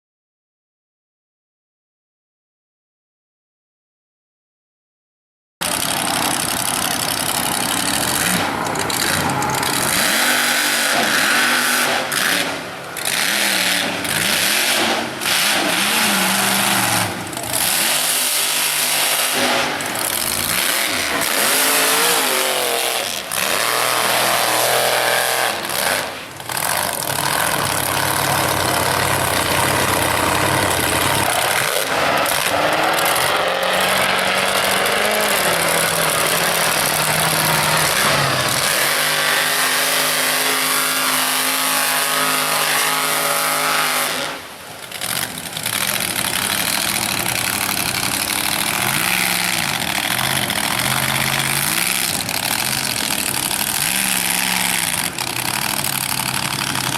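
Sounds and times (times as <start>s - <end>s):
truck engine revving: 5.6s - 56.9s.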